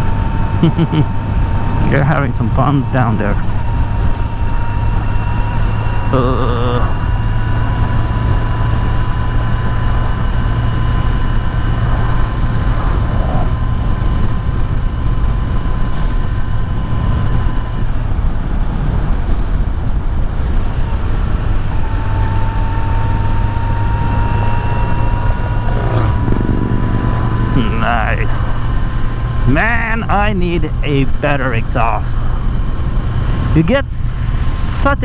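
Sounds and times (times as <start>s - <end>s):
thin high whine: 0.0s - 18.3s, 20.2s - 35.0s
motorcycle engine cruising: 0.0s - 34.8s
wind and road noise: 0.0s - 35.0s.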